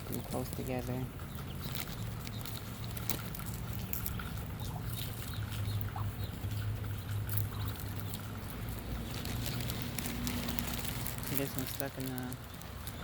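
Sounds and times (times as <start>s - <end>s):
ducklings peeping: 0.0s - 13.0s
rain pattering: 0.0s - 13.0s.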